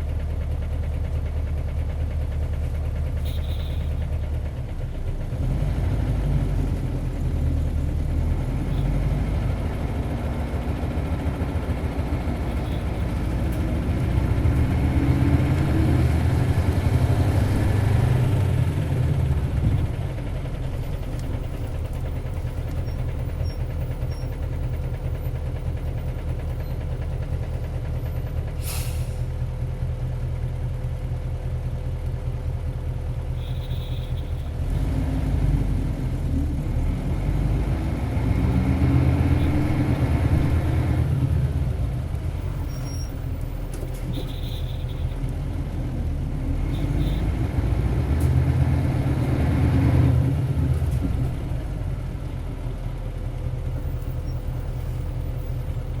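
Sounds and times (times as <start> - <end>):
diesel bus engine: 0.0 - 56.0.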